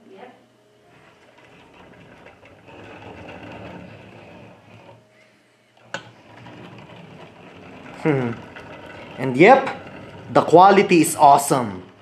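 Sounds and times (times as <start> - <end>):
toy truck wheels whirring: 1.1 - 5.0, 5.9 - 12.0.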